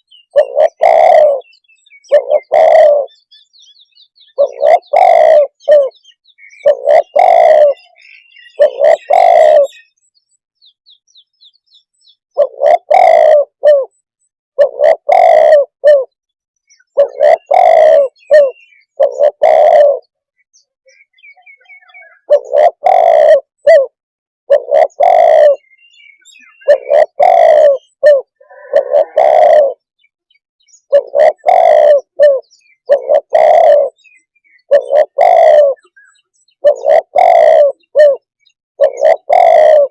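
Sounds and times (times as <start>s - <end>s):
dove cooing: 0.0s - 3.3s, 4.3s - 10.0s, 12.3s - 14.0s, 14.6s - 20.1s, 21.2s - 29.8s, 30.8s - 39.9s
small birds chirping: 0.0s - 23.7s, 24.5s - 39.9s.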